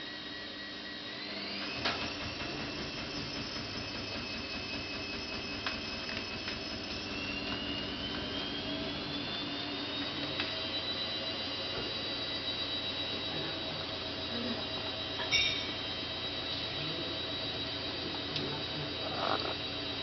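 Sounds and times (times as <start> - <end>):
machine-like whine: 0.0 - 20.0.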